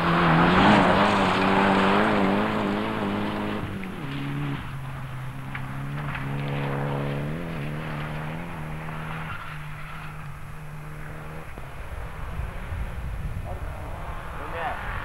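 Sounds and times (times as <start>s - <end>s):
rally car engine changing gears: 0.0s - 15.0s.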